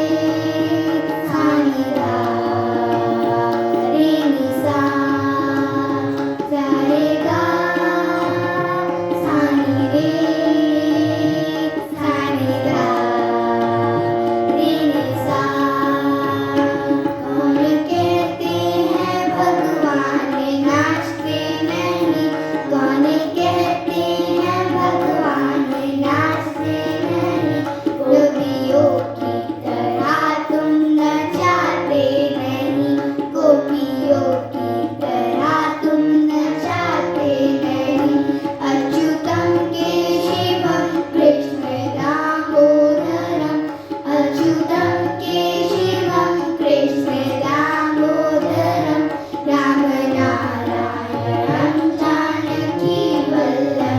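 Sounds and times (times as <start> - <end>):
children singing in unison: 0.0 - 53.9
tabla: 0.0 - 53.9.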